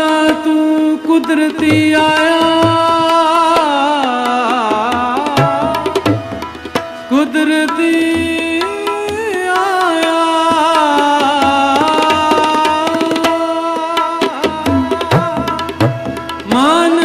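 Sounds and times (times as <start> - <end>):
tabla: 0.0 - 17.0.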